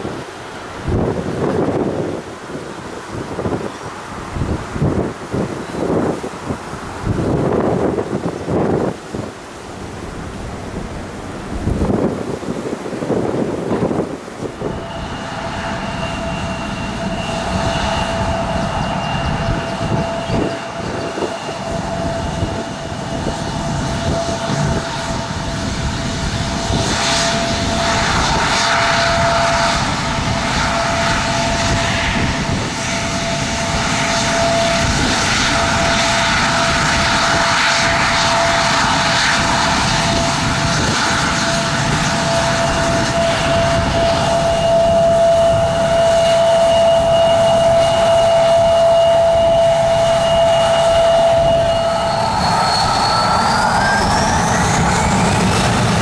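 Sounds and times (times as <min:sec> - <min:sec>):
airliner engines whining: 0:00.0 - 0:56.0.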